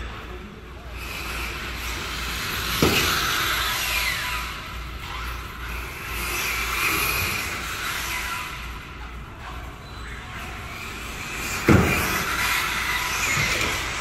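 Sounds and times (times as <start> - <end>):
rc car motor whine: 0.9 - 14.0.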